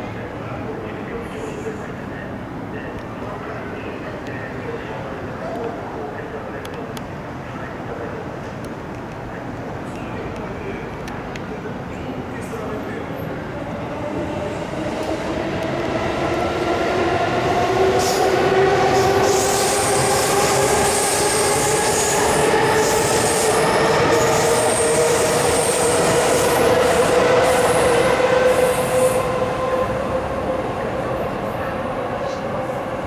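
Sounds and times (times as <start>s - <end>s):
rail and wheel noise: 0.0s - 33.0s.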